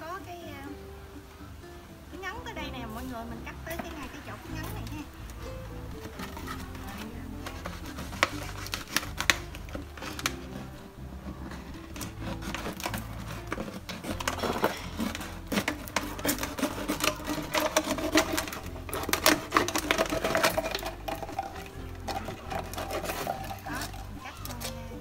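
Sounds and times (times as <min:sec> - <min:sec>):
plastic crackling and crinkling: 0:02.2 - 0:25.0
scissors snipping plastic bottle: 0:04.7 - 0:25.0.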